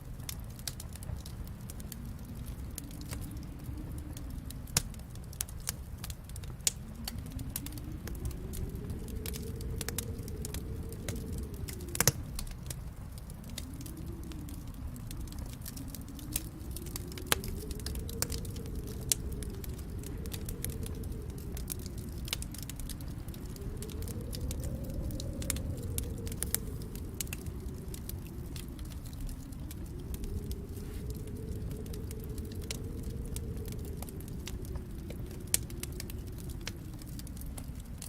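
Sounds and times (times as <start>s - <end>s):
low wind rumble: 0.0s - 38.0s
wood fire crackling and popping: 0.0s - 38.0s.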